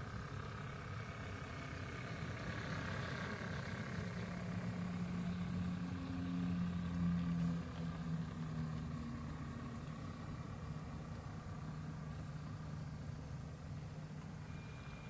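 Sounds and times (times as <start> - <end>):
model diesel locomotive hum: 0.0 - 15.0.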